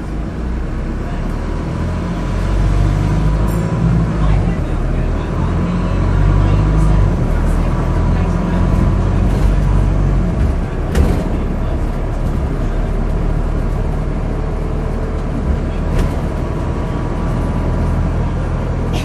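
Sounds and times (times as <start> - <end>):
diesel bus engine running: 0.0 - 19.0.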